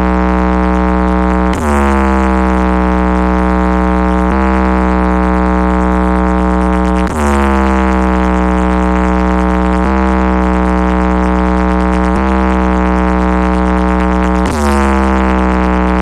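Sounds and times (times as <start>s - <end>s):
heavy bass: 0.0s - 16.0s
loud buzzing electronic tone: 0.0s - 16.0s.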